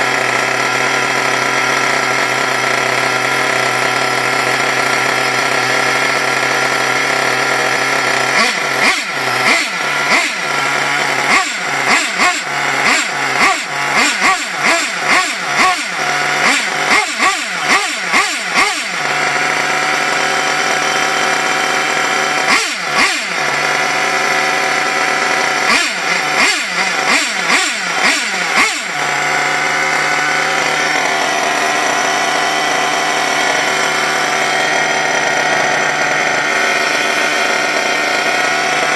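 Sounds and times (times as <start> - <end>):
small nitro engine idling and revving: 0.0 - 38.9.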